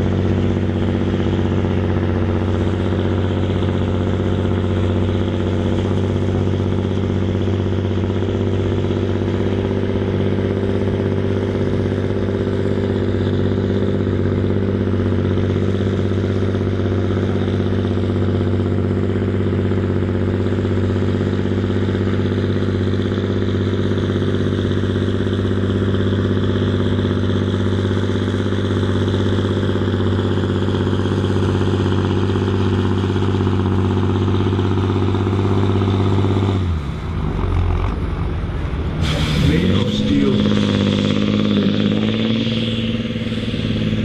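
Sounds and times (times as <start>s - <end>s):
tractor diesel engine running hard: 0.0s - 44.0s.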